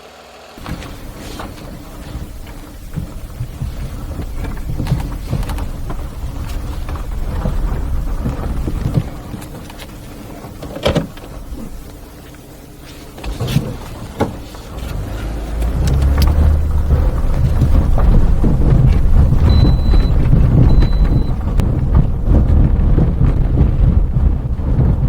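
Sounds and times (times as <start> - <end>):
road and tyre noise: 0.0 - 25.0
scattered clicks and knocks: 0.6 - 25.0.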